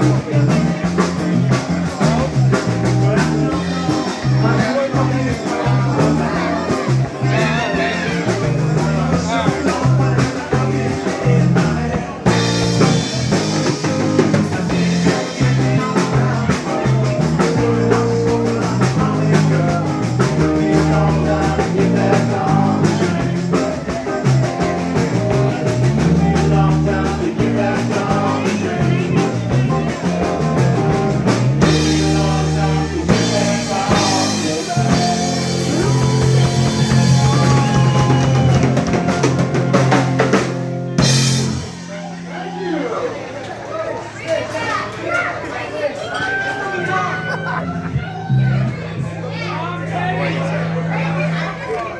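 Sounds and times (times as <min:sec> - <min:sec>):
drum kit: 0:00.0 - 0:42.6
electric guitar: 0:00.0 - 0:42.9
bass guitar: 0:00.0 - 0:43.4, 0:46.3 - 0:51.9.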